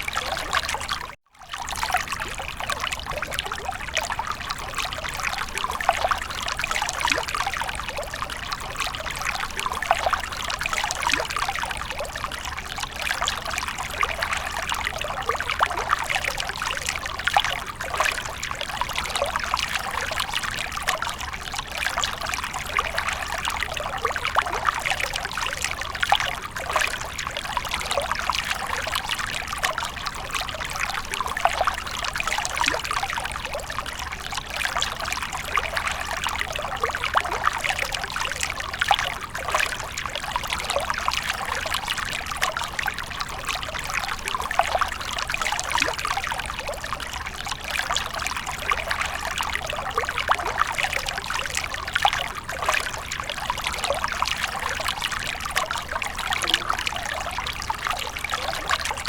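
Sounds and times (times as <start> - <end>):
fountain water trickling and splashing: 0.0 - 59.0.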